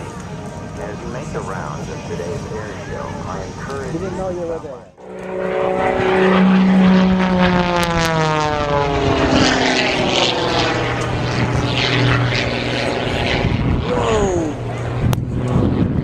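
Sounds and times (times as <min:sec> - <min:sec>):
airplane flying past: 0:00.0 - 0:16.0.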